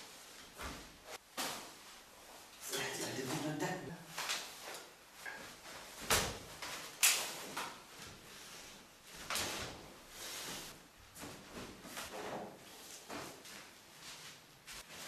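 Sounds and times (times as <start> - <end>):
cloth rustling and swishing: 0.0 - 15.0.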